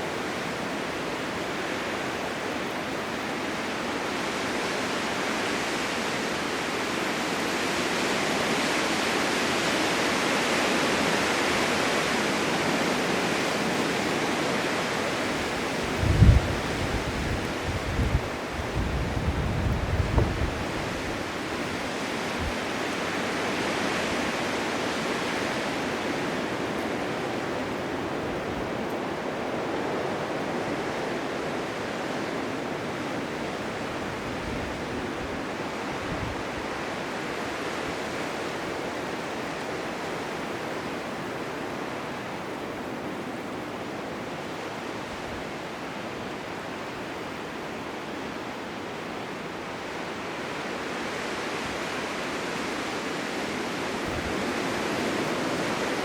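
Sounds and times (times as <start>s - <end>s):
blizzard wind rushing: 0.0s - 56.0s.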